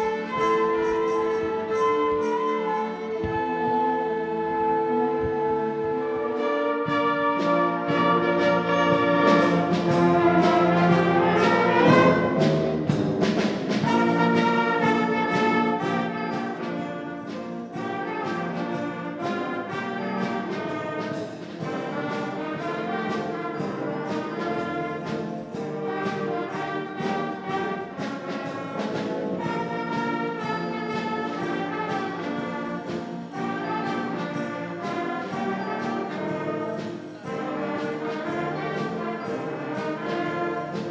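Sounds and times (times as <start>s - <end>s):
brass band music: 0.0s - 40.9s.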